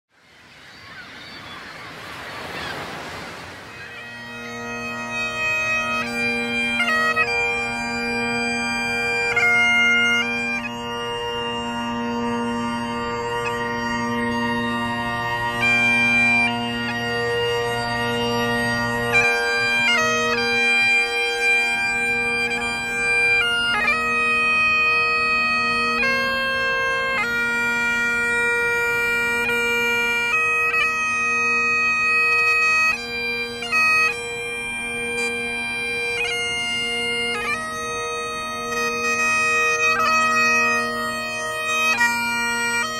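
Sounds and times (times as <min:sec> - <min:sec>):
bagpipes playing slow tune: 0:03.6 - 0:42.9.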